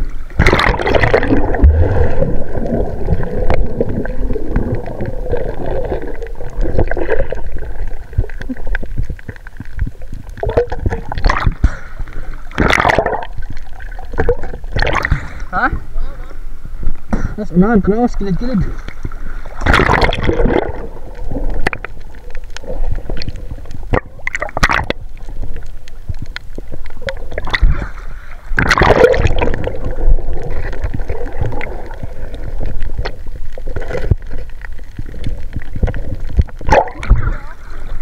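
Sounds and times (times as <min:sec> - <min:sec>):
water gurgling and sloshing: 0:00.0 - 0:38.0.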